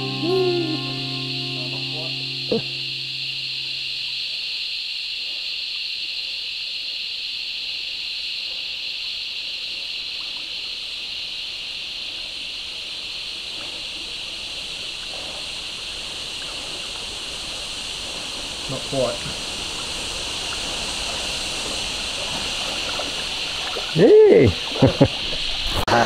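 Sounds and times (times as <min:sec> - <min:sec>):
steady high-pitched hiss: 0:00.0 - 0:26.0.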